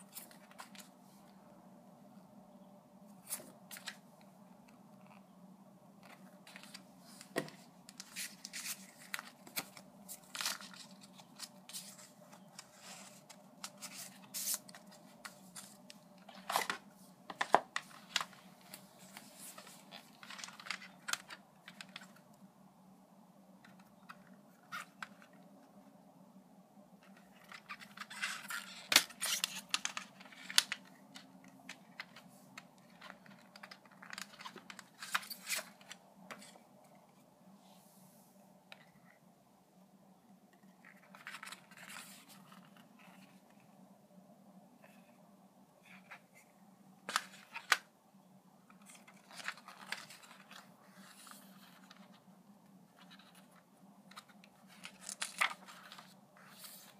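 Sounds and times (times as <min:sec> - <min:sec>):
photo cards rustling and sliding: 0:00.0 - 0:01.4, 0:03.1 - 0:05.2, 0:06.0 - 0:22.4, 0:23.6 - 0:25.9, 0:27.0 - 0:39.2, 0:40.6 - 0:43.8, 0:45.8 - 0:47.9, 0:48.7 - 0:56.9.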